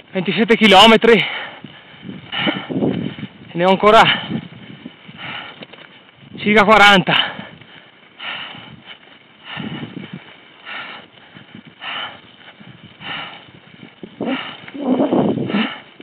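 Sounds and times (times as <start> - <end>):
cyclist breathing hard: 1.0 - 6.4, 7.0 - 16.0.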